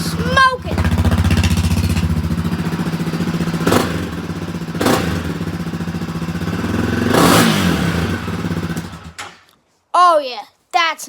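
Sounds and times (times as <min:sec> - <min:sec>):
motorbike engine idling and revving: 0:00.0 - 0:09.2.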